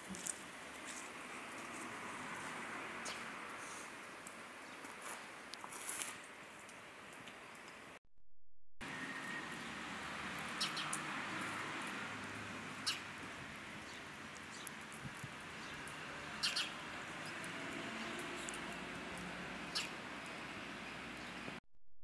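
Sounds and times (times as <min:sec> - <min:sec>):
steady street hiss: 0:00.0 - 0:08.0, 0:08.8 - 0:21.6.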